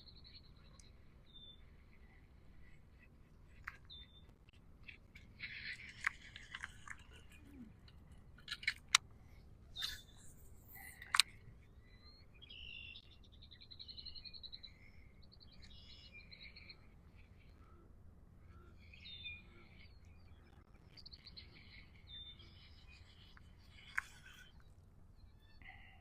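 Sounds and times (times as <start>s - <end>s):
low background hum: 0.0s - 26.0s
songbirds calling: 0.0s - 26.0s.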